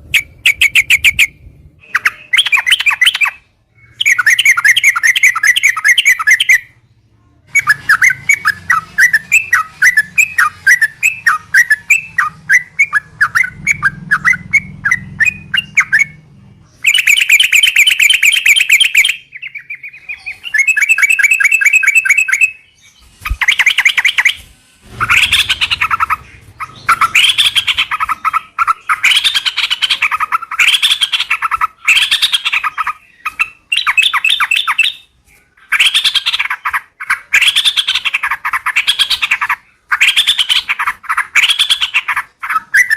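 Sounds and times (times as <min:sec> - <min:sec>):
bulbuls singing rapid chattering: 0:00.0 - 0:42.9.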